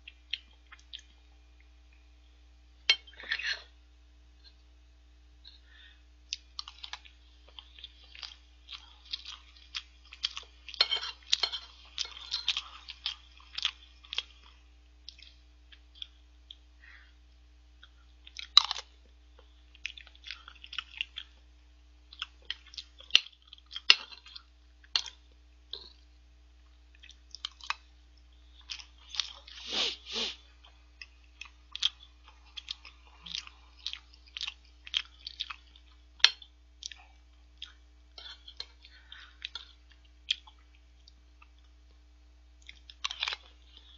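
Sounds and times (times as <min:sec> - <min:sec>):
person chewing food: 0:00.0 - 0:01.8, 0:05.4 - 0:21.5, 0:22.1 - 0:43.9.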